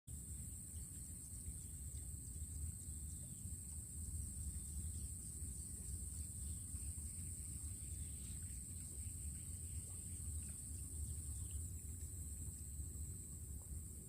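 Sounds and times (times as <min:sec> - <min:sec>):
insects droning: 0:00.1 - 0:14.0.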